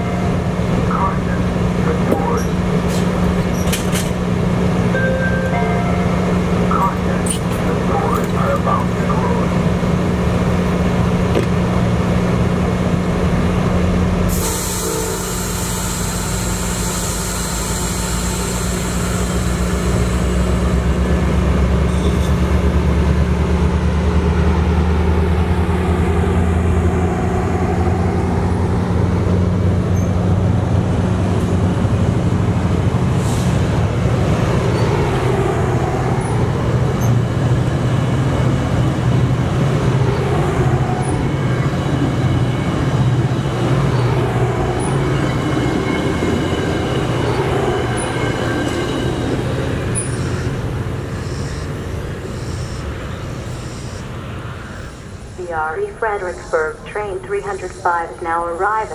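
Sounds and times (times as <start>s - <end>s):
train cars rolling past: 0.0s - 17.2s, 17.8s - 58.9s
diesel train engine running: 0.0s - 58.9s.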